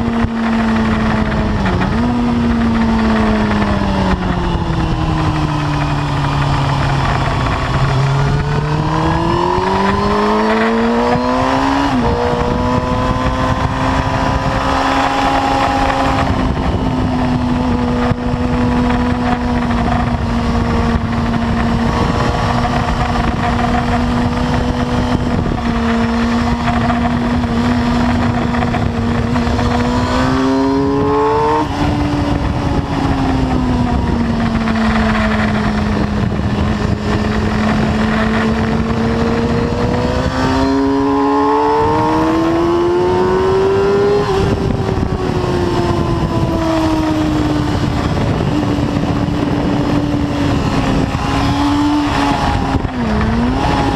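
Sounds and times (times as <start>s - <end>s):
motorcycle engine revving: 0.0s - 53.9s
wind rush: 0.0s - 53.9s.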